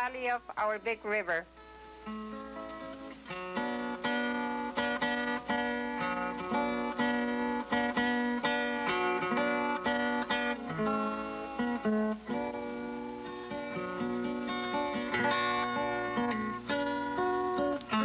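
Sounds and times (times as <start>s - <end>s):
acoustic guitar picking: 0.8s - 18.0s.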